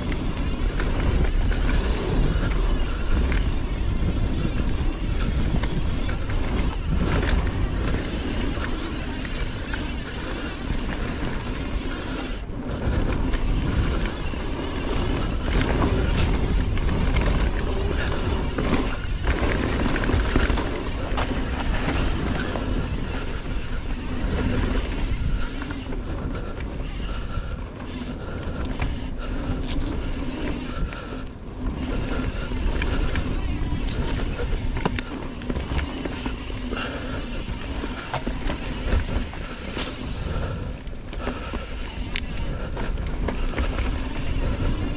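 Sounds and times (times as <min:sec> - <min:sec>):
tyres rolling over dirt: 0:00.0 - 0:28.1, 0:31.4 - 0:44.9
bike frame rattling: 0:00.0 - 0:44.9
wind rushing over microphone: 0:00.0 - 0:44.9.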